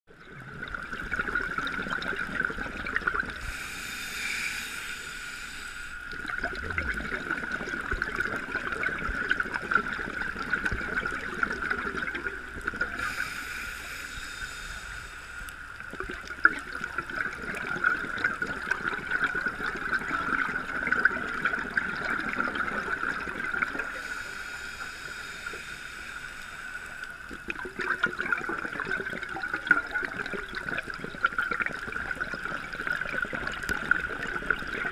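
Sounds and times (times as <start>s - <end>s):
scuba regulator bubbles: 0.1s - 34.9s
underwater crackling hiss: 0.6s - 34.9s.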